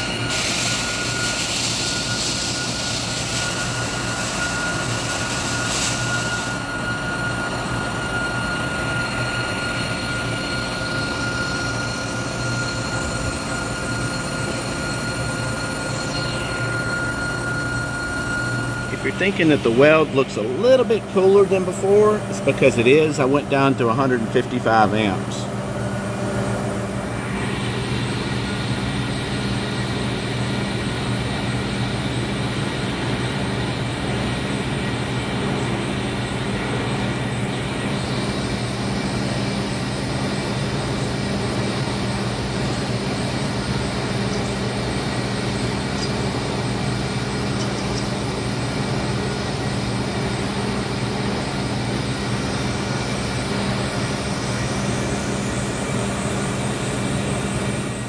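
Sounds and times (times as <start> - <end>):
faint high whine: 0.0 - 58.0
machine hum with hiss: 0.0 - 58.0.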